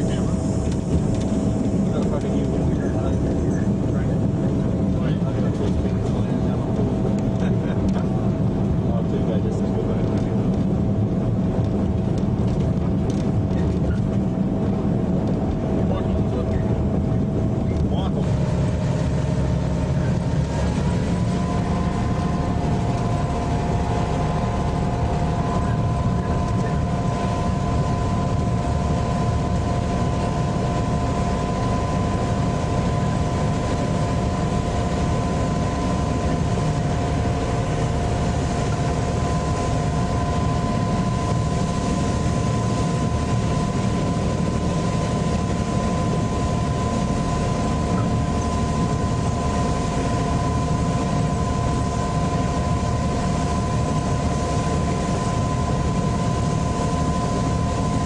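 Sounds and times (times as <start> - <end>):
diesel locomotive engine running: 0.0 - 58.0
steady whine: 0.0 - 58.0.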